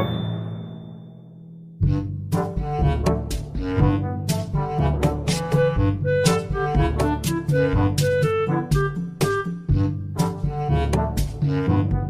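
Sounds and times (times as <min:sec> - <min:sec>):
upbeat brass music: 0:01.8 - 0:12.0.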